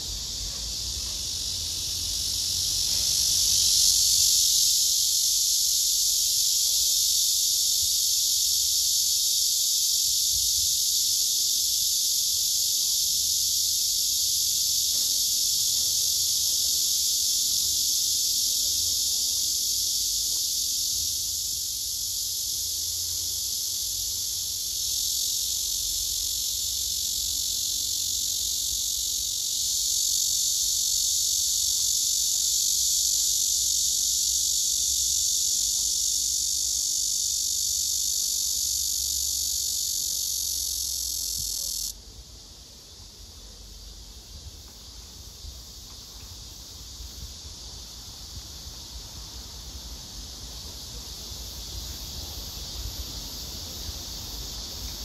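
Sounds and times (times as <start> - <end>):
cicadas buzzing in chorus: 0.0 - 55.0.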